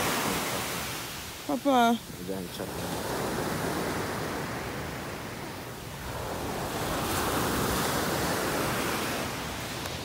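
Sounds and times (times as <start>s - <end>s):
small waves breaking on beach: 0.0s - 10.0s.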